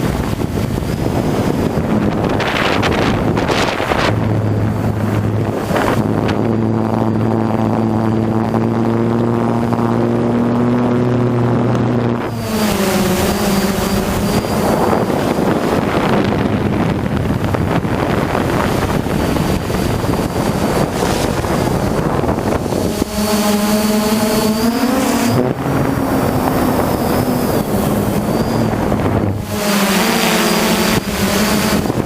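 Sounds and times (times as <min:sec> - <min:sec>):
drone motors humming: 0:00.0 - 0:32.0
wind noise on microphone: 0:00.0 - 0:32.0.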